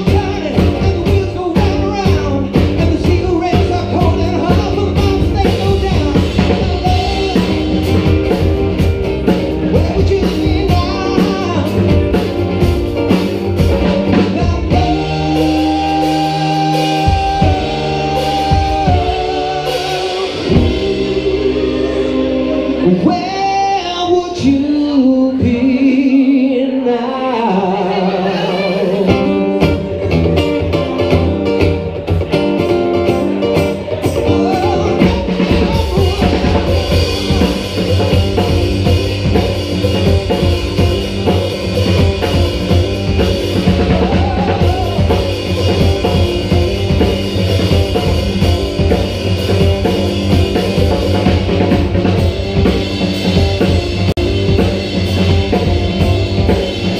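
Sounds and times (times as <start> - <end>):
person singing: 0.0 - 8.6, 9.3 - 12.6, 14.0 - 53.7
drum kit: 0.0 - 25.6, 27.7 - 56.9
bass line: 0.0 - 56.9
electric keyboard: 0.0 - 56.9.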